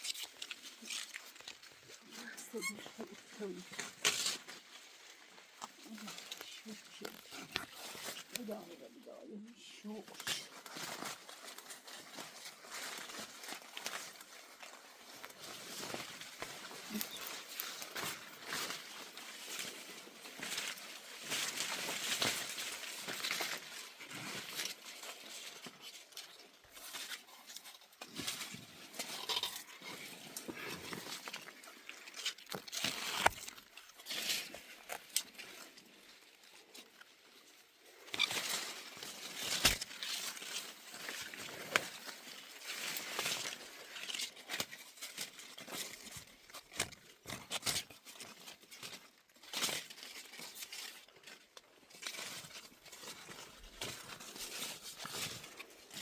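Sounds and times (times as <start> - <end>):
foliage rustling and snapping: 0.0 - 56.0.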